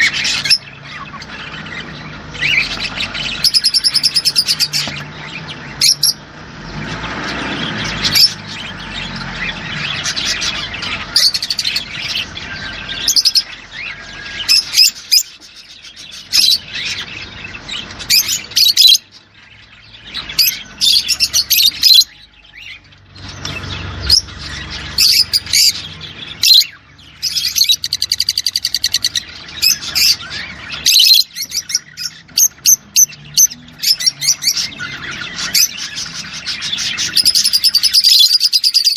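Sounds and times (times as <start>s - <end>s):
buzzy bird trill: 0.0s - 38.9s
small birds chirping and singing: 0.0s - 38.9s.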